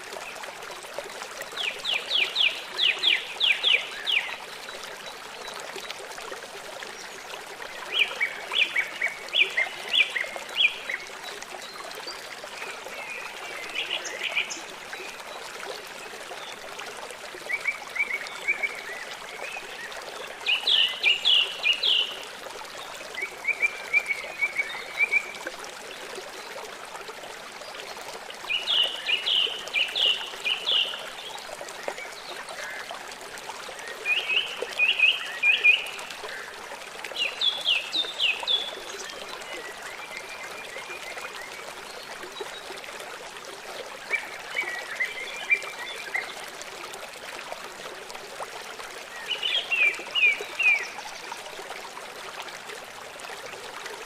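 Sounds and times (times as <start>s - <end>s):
running water trickling: 0.0s - 54.0s.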